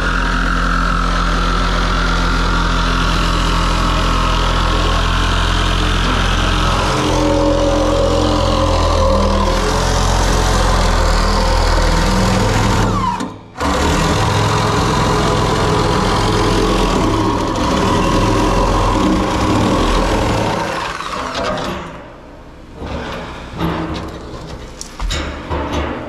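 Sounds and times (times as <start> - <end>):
engine-driven machine running: 0.0 - 25.7.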